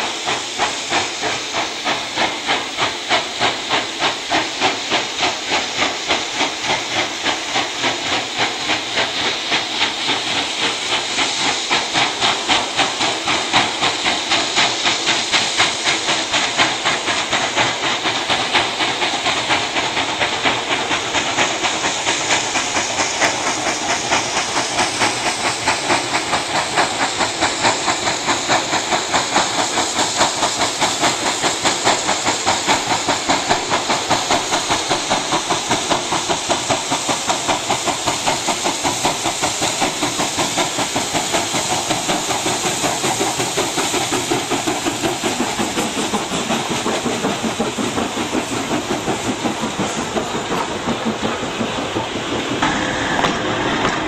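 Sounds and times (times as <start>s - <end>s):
hissing steam: 0.0s - 54.0s
steam locomotive exhaust beats: 0.0s - 54.0s.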